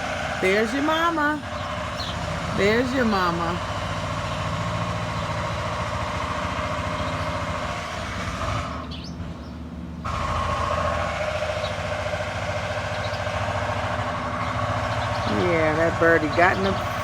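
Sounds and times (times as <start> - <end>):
engine-like hum: 0.0 - 17.0.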